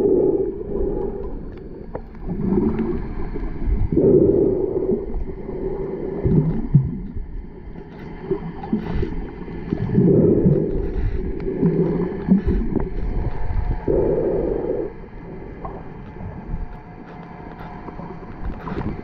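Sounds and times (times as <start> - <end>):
underwater rushing and gurgling: 0.0 - 19.0.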